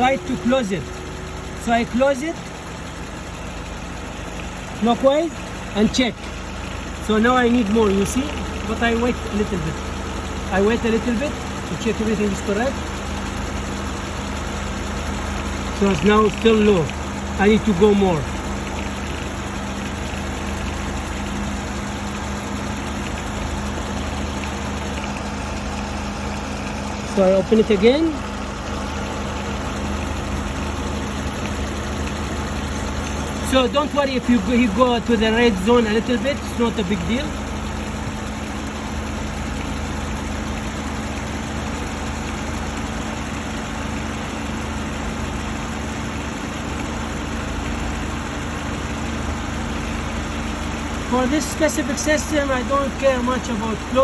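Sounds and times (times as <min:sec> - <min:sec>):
car engine idling: 0:00.0 - 0:54.0
cooling fan running: 0:00.0 - 0:54.0.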